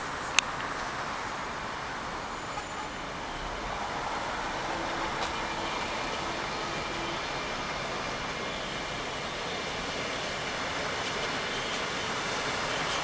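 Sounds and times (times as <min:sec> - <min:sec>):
rumble of rail noise: 0:00.0 - 0:13.0.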